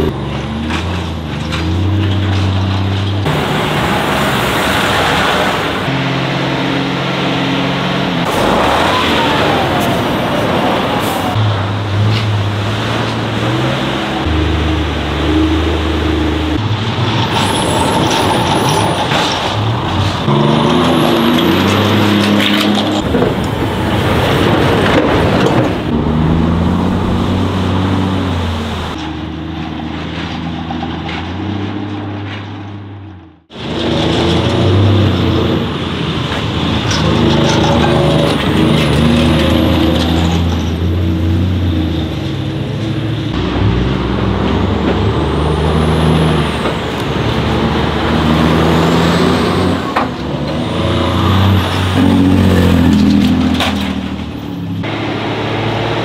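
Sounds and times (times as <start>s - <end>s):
truck diesel engines running hard: 0.0s - 56.0s.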